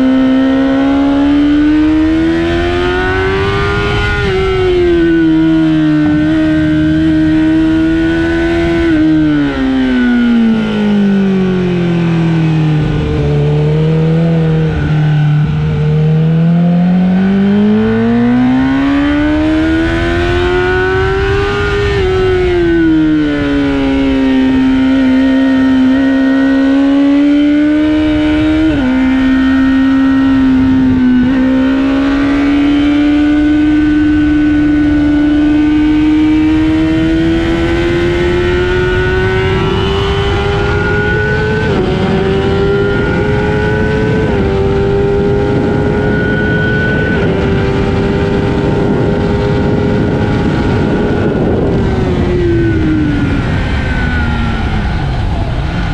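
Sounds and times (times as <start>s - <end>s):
motorcycle engine at speed: 0.0s - 55.9s
quick gear upshifts: 0.0s - 55.9s.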